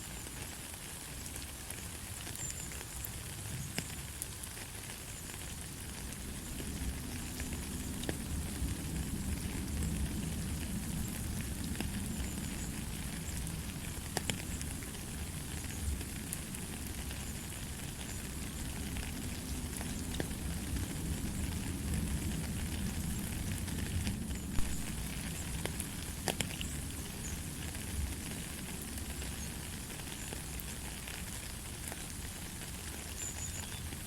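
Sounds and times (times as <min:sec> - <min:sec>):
light rain hissing: 0:00.0 - 0:34.0.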